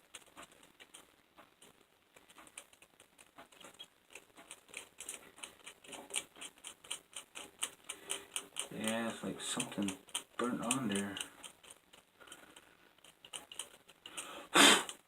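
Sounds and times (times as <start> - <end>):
grinder parts clicking and tapping: 2.2 - 15.0.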